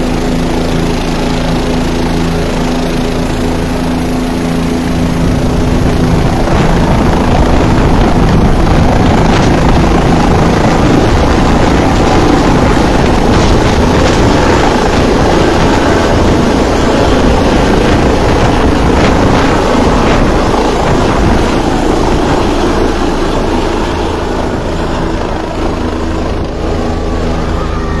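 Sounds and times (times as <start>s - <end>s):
helicopter rotor and turbine: 0.0s - 28.0s.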